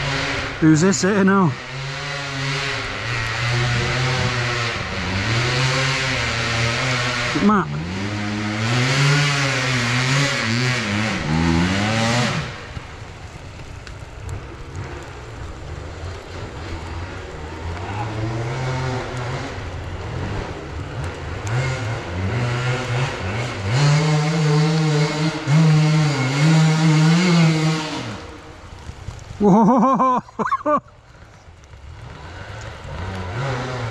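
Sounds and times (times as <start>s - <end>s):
motorcycle engines revving: 0.0s - 33.9s.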